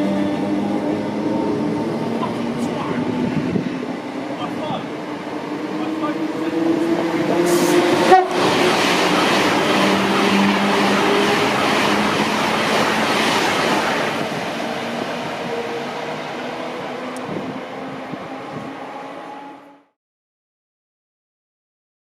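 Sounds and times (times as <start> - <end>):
train rumbling past: 0.0 - 19.9.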